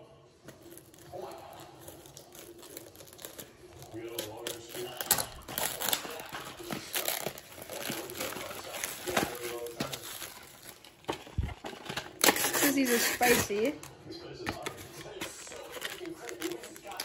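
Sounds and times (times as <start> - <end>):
plastic packaging tearing and crinkling: 0.4 - 13.9, 14.6 - 17.0.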